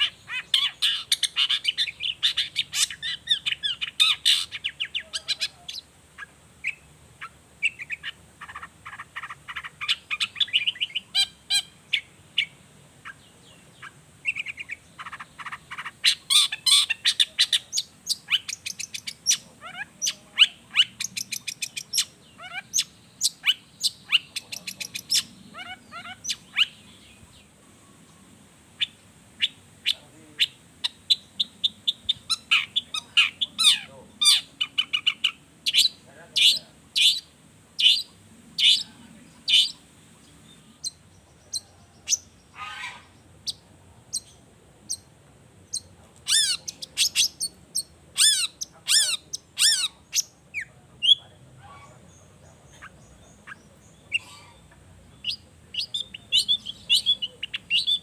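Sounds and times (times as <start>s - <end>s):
bird singing chirps and trills: 0.0s - 58.0s.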